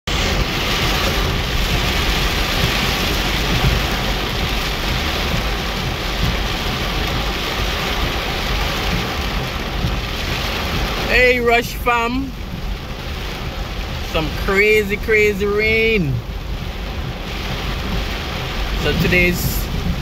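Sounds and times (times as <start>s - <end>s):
car rumbling on flooded road: 0.1s - 20.0s
heavy rain on car windshield: 0.1s - 20.0s.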